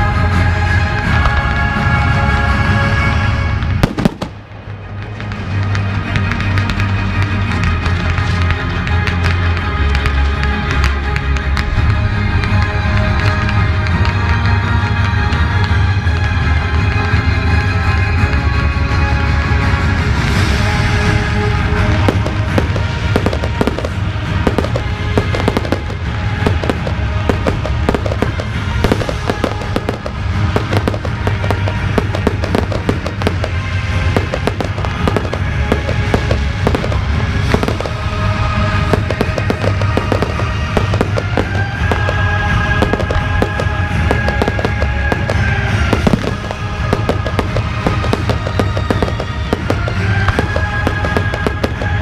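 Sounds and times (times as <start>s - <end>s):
fireworks bangs and crackles: 0.0s - 52.0s
music with sustained notes: 0.0s - 52.0s.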